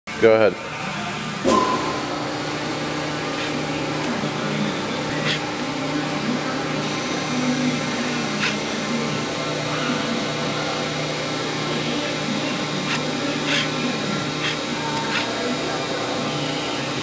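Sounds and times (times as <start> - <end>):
hydraulic power unit humming: 0.1 - 17.0.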